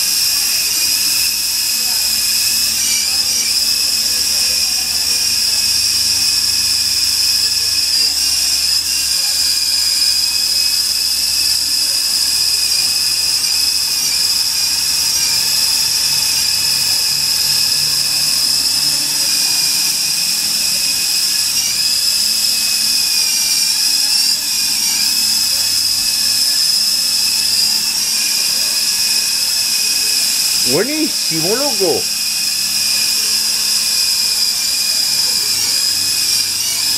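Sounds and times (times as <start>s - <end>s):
toy helicopter rotors whining: 0.0s - 36.9s.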